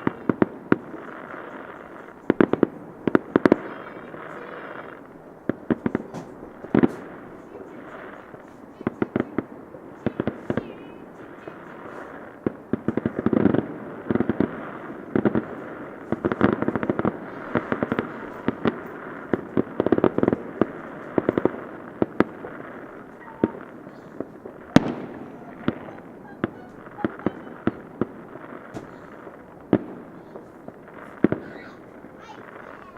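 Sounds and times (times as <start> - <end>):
fireworks banging and crackling: 0.0 - 32.9.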